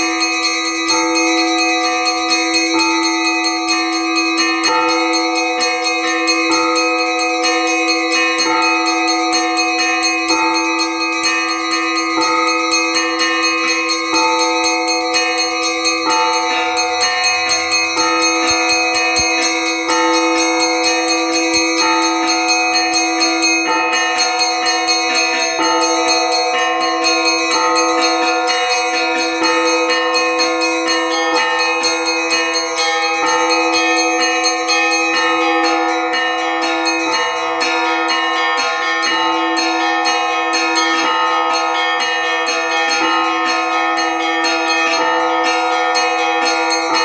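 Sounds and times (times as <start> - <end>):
small bells struck: 0.0 - 47.0.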